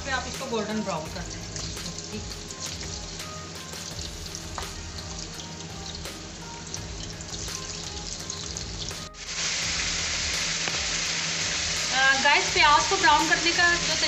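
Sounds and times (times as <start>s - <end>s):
chicken sizzling in hot oil: 0.0s - 14.0s
onions sizzling in oil: 0.0s - 14.0s.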